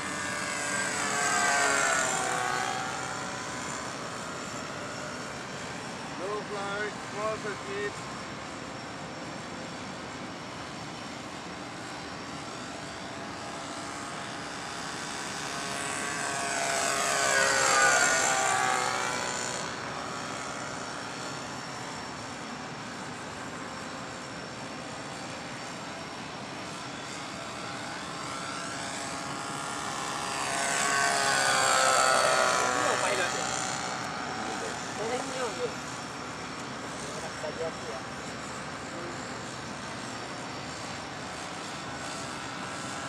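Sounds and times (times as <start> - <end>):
model airplane motor and propeller: 0.0 - 43.0.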